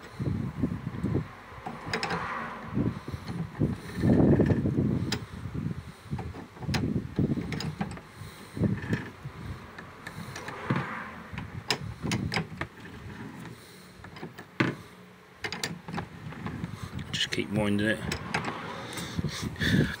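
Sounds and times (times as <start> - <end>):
winch clicking and rubbing: 1.0 - 5.5, 6.1 - 14.8, 15.4 - 17.2, 18.0 - 20.0.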